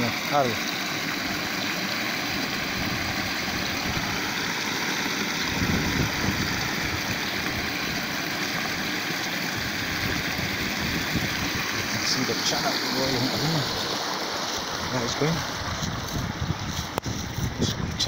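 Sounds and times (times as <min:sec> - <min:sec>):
water pouring into pool: 0:00.0 - 0:17.6.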